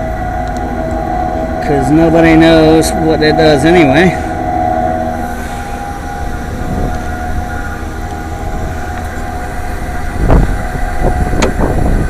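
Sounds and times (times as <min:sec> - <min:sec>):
hvac fan motor humming: 0:00.0 - 0:12.0.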